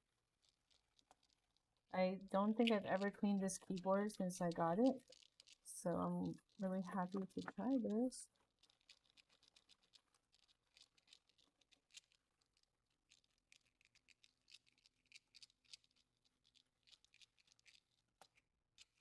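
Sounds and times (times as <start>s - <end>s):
brush scrubbing keyboard keys: 0.1s - 1.8s, 2.4s - 19.0s.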